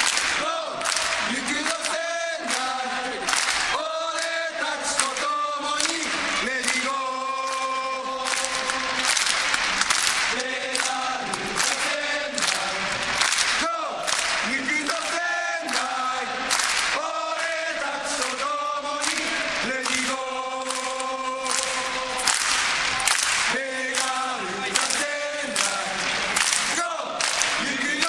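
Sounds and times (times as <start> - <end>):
crowd singing a chant: 0.0 - 28.0.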